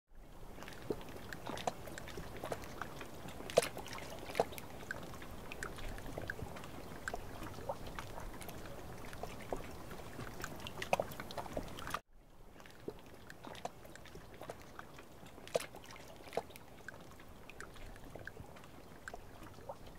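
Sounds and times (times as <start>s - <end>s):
water splashes and drips: 0.2s - 19.9s.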